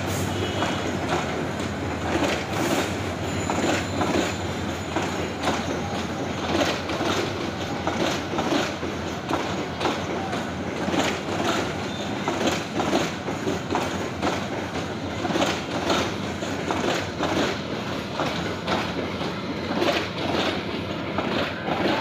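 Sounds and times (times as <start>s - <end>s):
train rumble: 0.0s - 22.0s
train wheels clacking over joints: 0.0s - 22.0s.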